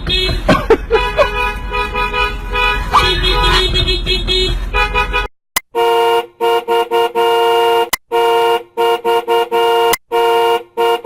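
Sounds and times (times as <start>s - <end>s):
car horn honking: 0.0s - 11.0s.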